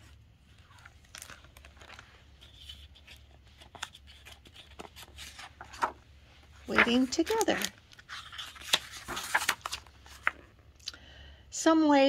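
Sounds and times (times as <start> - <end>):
book paper rustling: 0.0 - 10.6.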